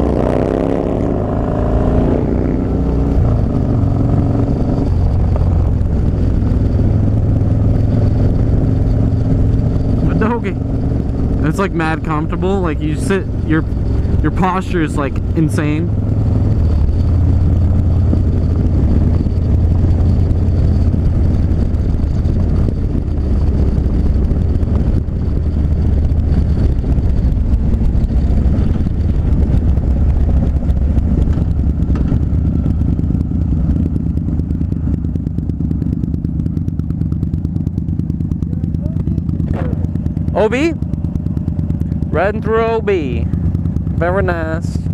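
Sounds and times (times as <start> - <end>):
motorcycle engine rumbling: 0.0 - 44.9.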